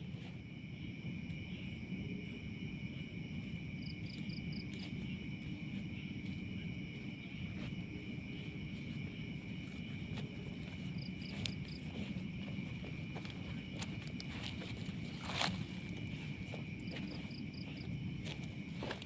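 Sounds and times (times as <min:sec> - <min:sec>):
higher insect chirps: 0:00.0 - 0:19.0
insects trilling: 0:00.0 - 0:19.0.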